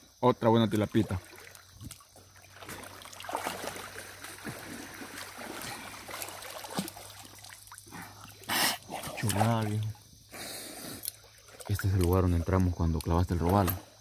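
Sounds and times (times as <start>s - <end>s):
river water splashing and trickling: 0.2s - 14.0s
people wading through water: 0.7s - 14.0s.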